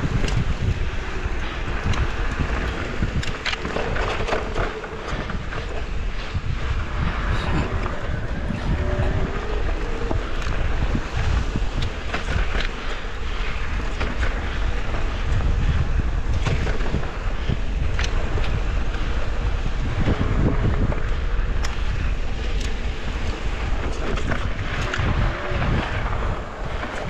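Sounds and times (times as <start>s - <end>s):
bike clicks and rattles: 0.0s - 27.0s
wind on microphone: 0.0s - 27.0s.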